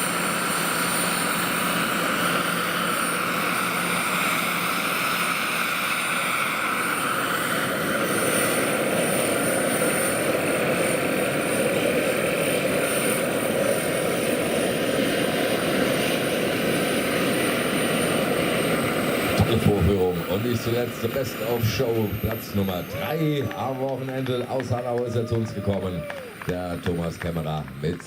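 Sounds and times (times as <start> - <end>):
high turbine whine: 0.0 - 28.0
model helicopter rotor and turbine: 0.0 - 28.0.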